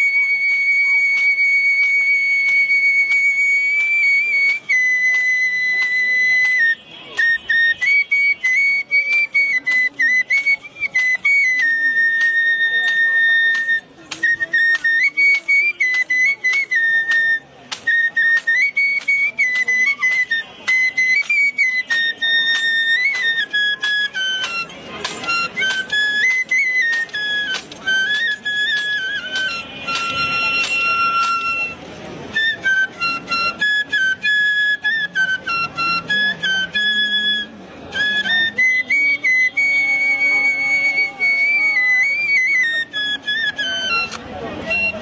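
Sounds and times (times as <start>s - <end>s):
bamboo flute melody: 0.0s - 45.0s.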